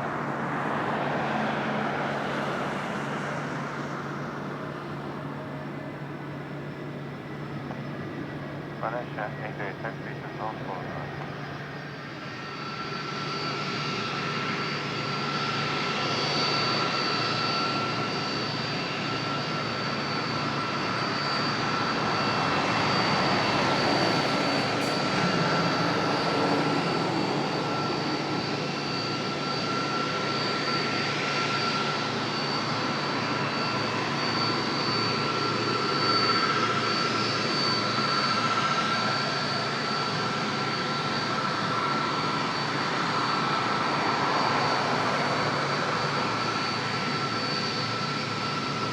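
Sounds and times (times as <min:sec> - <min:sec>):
high engine whine: 0:00.0 - 0:48.9
jet engines running: 0:00.0 - 0:48.9.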